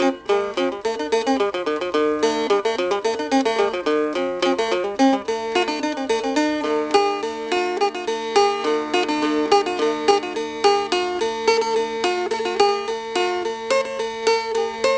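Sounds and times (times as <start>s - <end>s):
plucked string instrument music: 0.0s - 14.9s.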